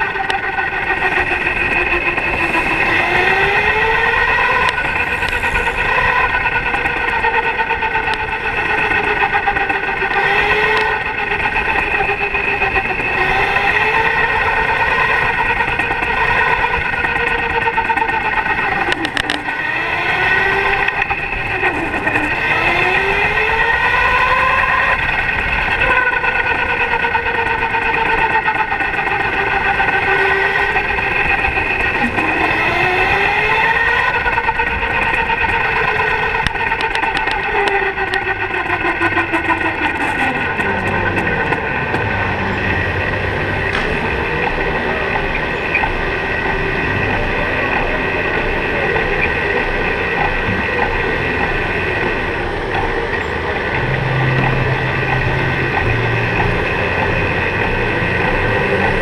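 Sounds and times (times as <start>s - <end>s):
electric motor whining: 0.0s - 59.0s.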